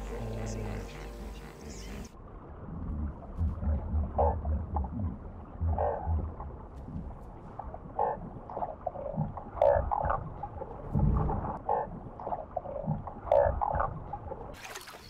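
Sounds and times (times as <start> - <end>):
muffled underwater gurgling: 0.0 - 14.6
low underwater thumps: 2.1 - 14.6.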